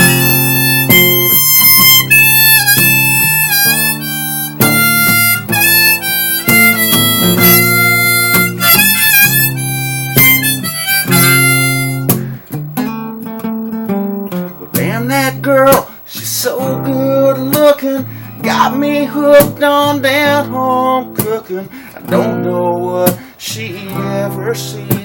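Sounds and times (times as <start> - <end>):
harmonica solo: 0.0 - 22.9
acoustic guitar: 0.0 - 25.0.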